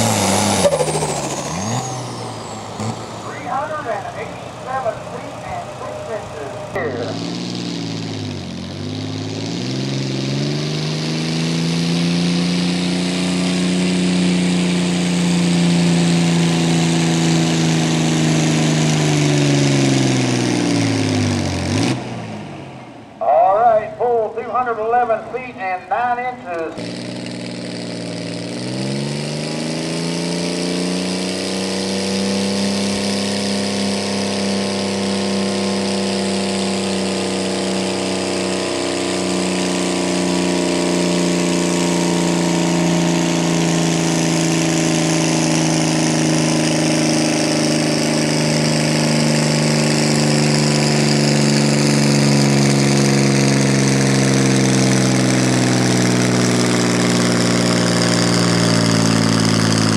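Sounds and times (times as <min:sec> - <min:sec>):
tractor diesel engine revving: 0:00.0 - 0:59.9.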